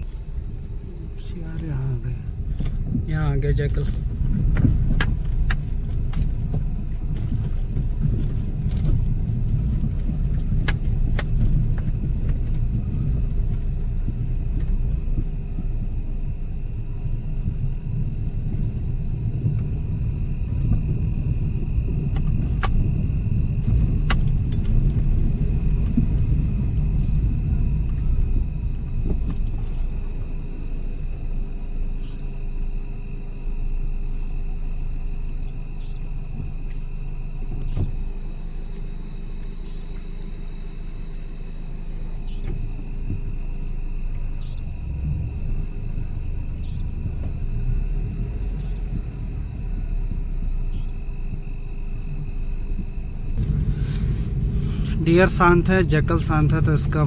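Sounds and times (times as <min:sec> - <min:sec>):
car engine running: 0:00.0 - 0:57.0
road rumble: 0:00.0 - 0:57.0.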